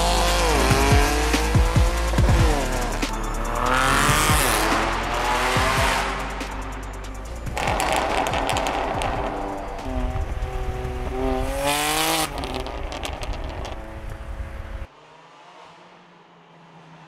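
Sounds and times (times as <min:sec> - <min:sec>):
car engine revving with crackles: 0:00.0 - 0:17.0.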